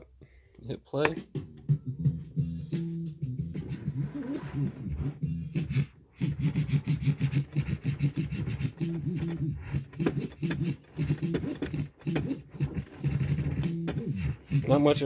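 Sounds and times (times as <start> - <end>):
music track being scratched: 1.1 - 15.0.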